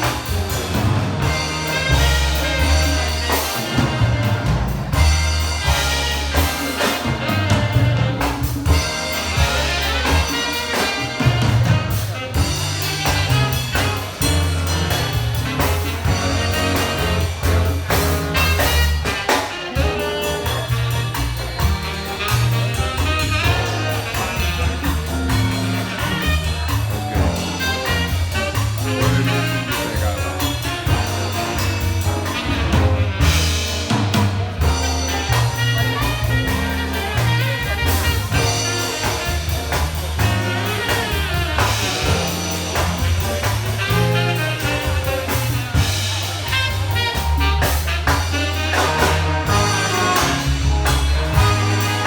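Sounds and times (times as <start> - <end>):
bass notes: 0.0 - 52.0
drum kit hits: 0.0 - 52.0
horns playing jazz: 0.0 - 52.0.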